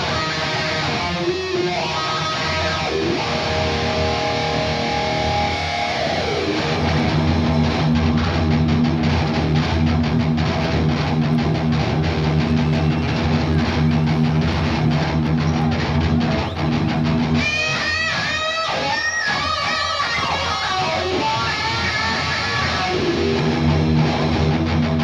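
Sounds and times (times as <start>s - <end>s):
heavy metal band playing: 0.0s - 25.0s
lead electric guitar bending notes: 0.0s - 25.0s.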